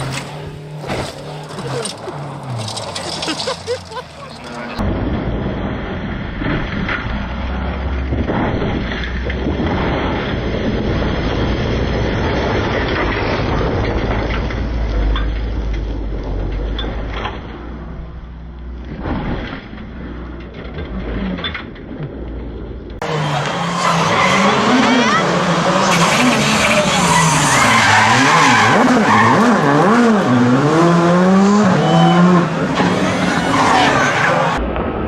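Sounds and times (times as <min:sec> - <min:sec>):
rally car engine rumble: 0:00.0 - 0:35.0.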